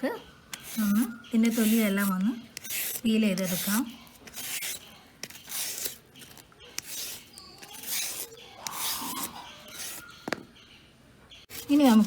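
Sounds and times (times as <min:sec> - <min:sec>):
banana skin being scraped: 0:00.5 - 0:10.4, 0:11.5 - 0:12.0.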